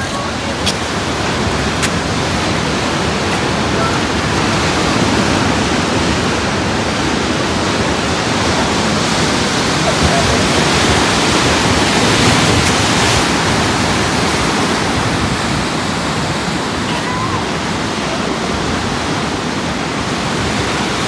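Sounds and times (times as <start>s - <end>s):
ocean surf breaking over rocks: 0.0s - 21.0s.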